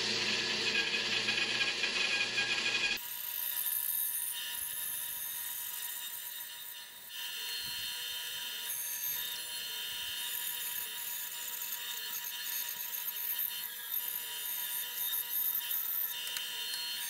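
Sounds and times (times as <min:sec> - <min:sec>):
bandsaw cutting wood: 0:00.0 - 0:03.1, 0:04.5 - 0:17.0.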